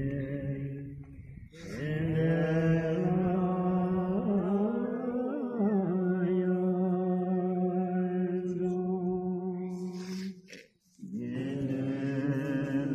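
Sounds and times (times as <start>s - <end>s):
man chanting: 1.6s - 10.4s, 11.0s - 12.9s.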